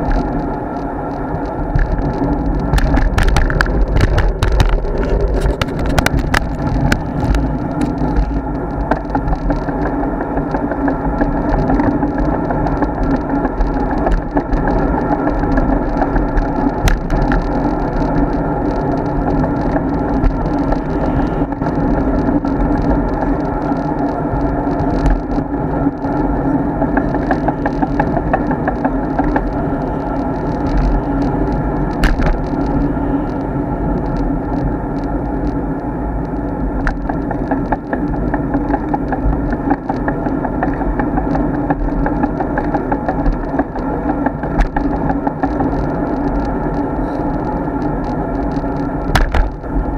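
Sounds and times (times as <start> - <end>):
small clicks and knocks: 0.0 - 35.6, 36.2 - 49.8
bike rumbling and rattling: 0.0 - 49.9.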